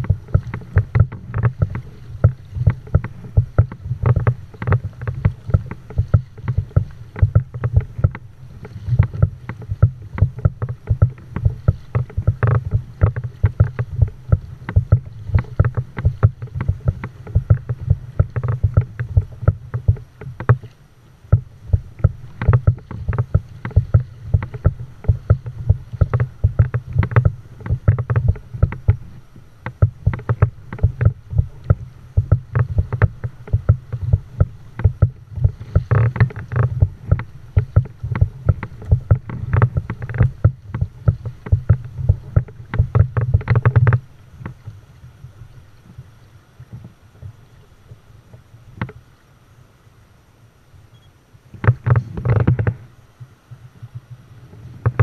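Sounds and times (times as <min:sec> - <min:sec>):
water slapping against kayak hull: 0:00.0 - 0:49.1, 0:51.5 - 0:55.0
steady low rumble: 0:00.0 - 0:49.3.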